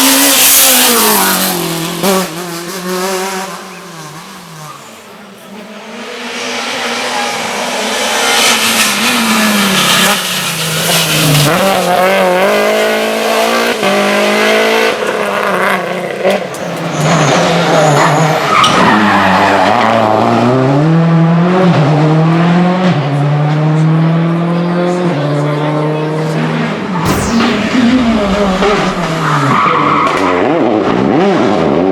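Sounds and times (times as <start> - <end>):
rally car engine revving: 0.0 - 31.9.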